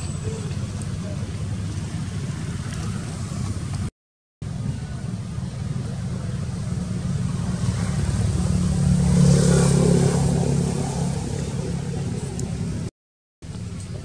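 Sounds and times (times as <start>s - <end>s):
vehicle engine passing: 0.0s - 12.9s.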